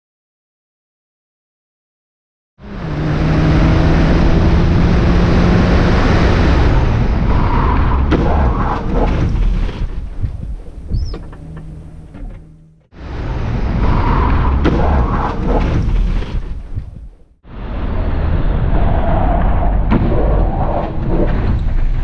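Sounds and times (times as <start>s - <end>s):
road noise: 2.6s - 22.0s
wind buffeting: 2.7s - 22.0s.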